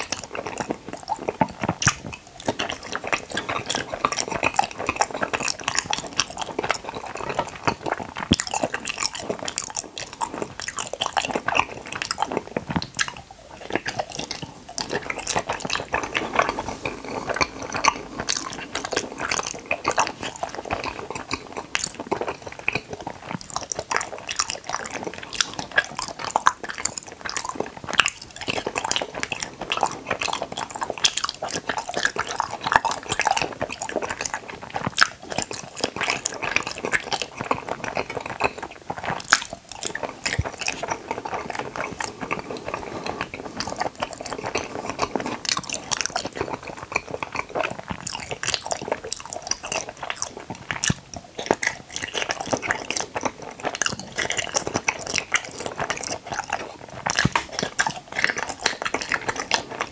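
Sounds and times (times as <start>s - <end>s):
wet chewing of gummy candy: 0.0s - 59.9s.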